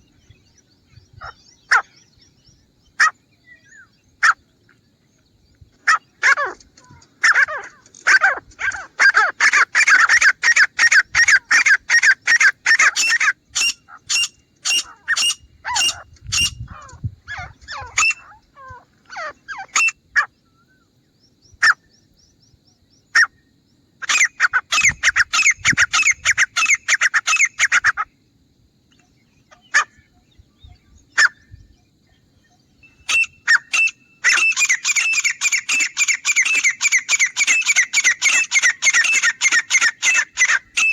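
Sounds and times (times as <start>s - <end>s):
francolin calling: 0.0s - 40.9s.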